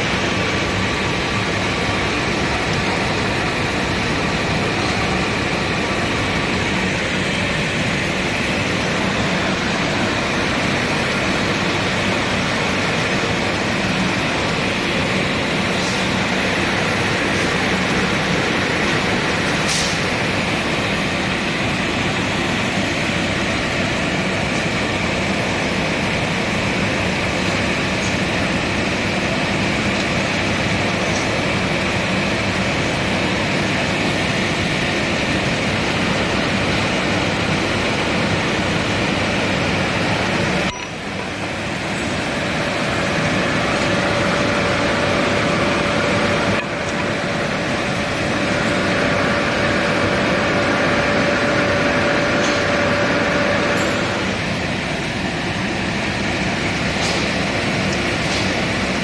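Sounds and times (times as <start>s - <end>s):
woodworking machine running: 0.0s - 59.0s.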